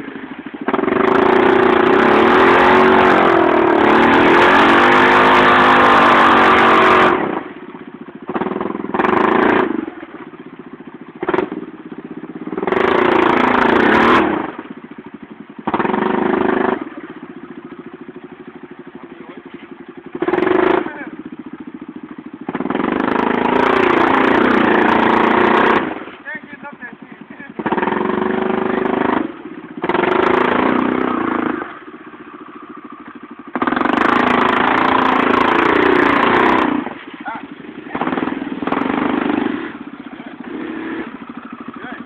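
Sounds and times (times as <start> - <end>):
quad engine idling: 0.0 - 42.0
quad engine revving: 0.0 - 42.0.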